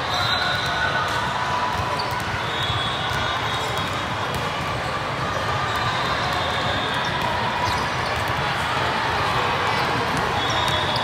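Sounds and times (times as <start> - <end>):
crowd of voices in a hall: 0.0 - 11.0
volleyballs bouncing and struck: 0.5 - 11.0.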